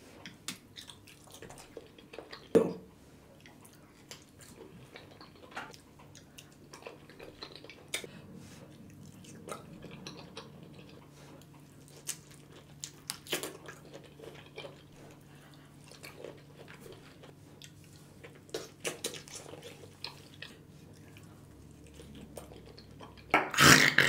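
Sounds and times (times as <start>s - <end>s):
faint low hum: 0.0s - 23.4s
person chewing wetly: 0.2s - 2.6s, 3.4s - 23.5s.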